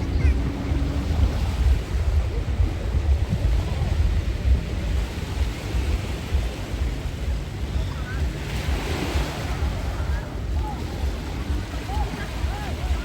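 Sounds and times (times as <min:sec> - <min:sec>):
sea surf: 0:00.0 - 0:13.0
wind buffeting microphone: 0:00.0 - 0:13.0.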